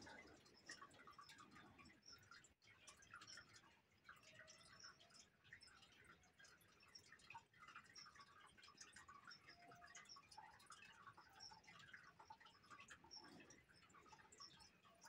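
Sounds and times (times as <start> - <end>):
faint high chirps and ticks: 0.0 - 15.0.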